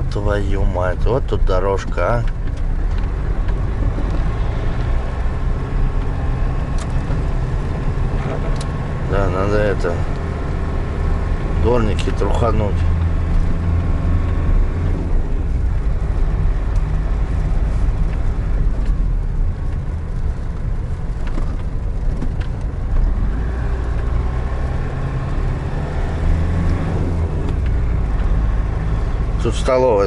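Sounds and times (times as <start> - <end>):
road and wind noise: 0.0 - 30.0
van engine drone: 0.0 - 30.0.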